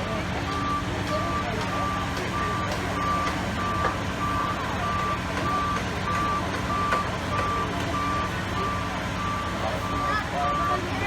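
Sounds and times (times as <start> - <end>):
heavy vehicle engine running: 0.0 - 11.0
truck reversing alarm beeping: 0.0 - 11.0.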